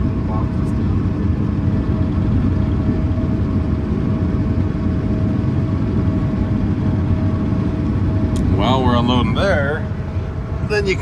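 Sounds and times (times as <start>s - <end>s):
combine harvester engine rumble: 0.0s - 11.0s
steady high whine: 0.0s - 11.0s.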